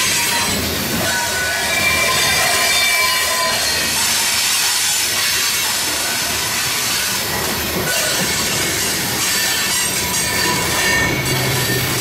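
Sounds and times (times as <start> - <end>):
high wheel squeals: 0.0 - 7.1, 7.8 - 12.0
train wheels rumbling on track: 0.0 - 12.0.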